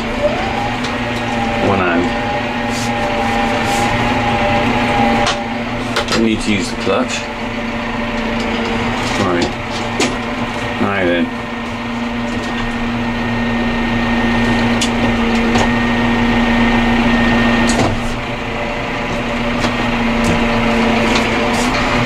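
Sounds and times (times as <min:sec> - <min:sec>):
diesel tractor engine humming: 0:00.0 - 0:22.0.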